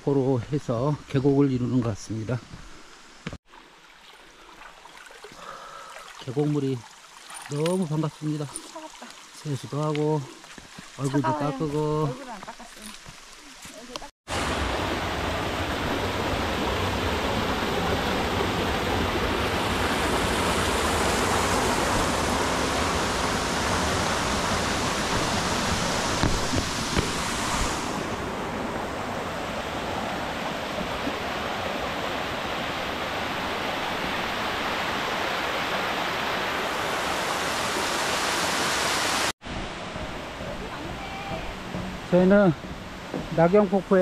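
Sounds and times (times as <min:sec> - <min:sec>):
stream rushing over rocks: 0:03.5 - 0:44.0.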